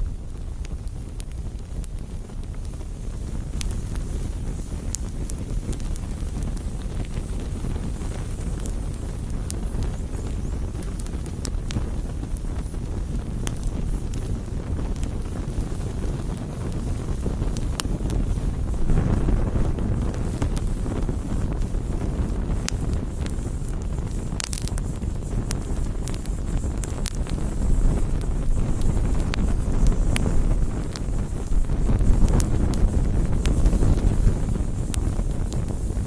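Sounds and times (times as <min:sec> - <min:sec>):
campfire crackling: 0:00.0 - 0:36.0
wind rumble on microphone: 0:00.0 - 0:36.0.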